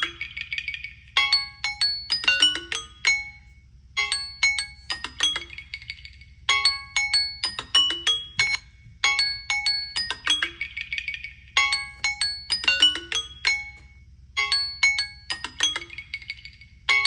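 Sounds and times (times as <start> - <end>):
smartphone alarm chime melody: 0.0 - 17.0.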